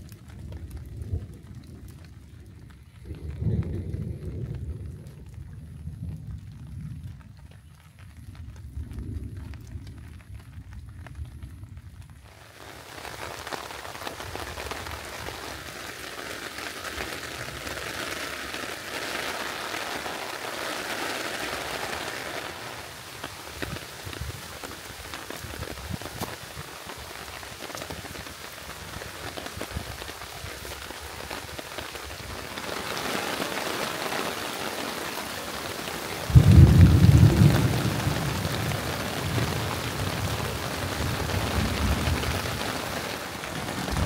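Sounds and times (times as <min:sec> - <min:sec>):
thunder rumbling: 0:00.0 - 0:07.4, 0:08.1 - 0:44.0
rain falling on a surface: 0:00.0 - 0:44.0.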